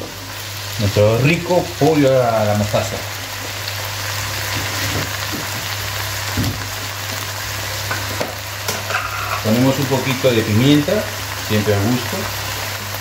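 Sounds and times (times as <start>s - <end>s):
onion and garlic sizzling in oil: 0.0s - 13.0s.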